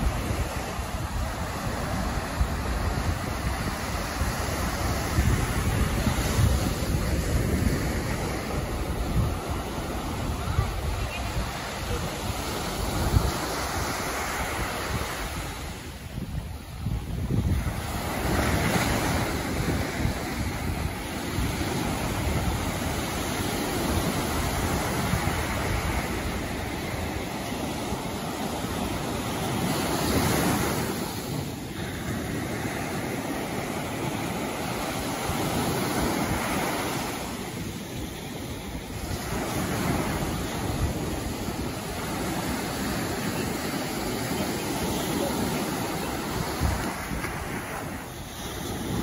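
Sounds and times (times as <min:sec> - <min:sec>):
sea waves washing in: 0:00.0 - 0:49.0
wind buffeting microphone: 0:00.0 - 0:49.0.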